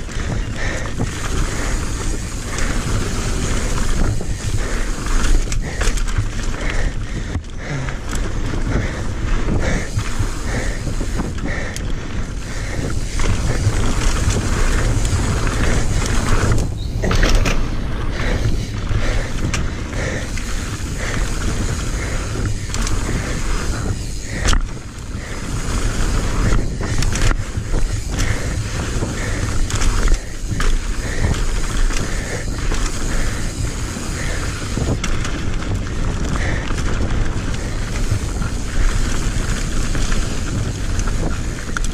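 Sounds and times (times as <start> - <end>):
bike rattling and knocking: 0.0 - 41.9
tyres on loose dirt: 0.0 - 41.9
wind buffeting microphone: 0.0 - 41.9.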